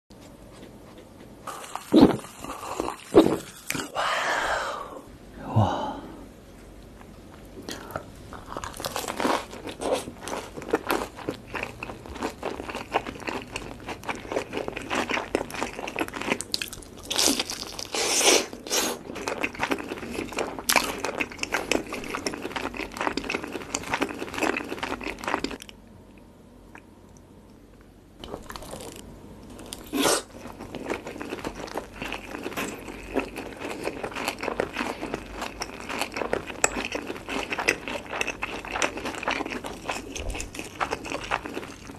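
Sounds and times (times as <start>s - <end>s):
crunching and chewing fried chicken: 0.2s - 4.0s, 7.3s - 25.8s, 28.2s - 41.9s.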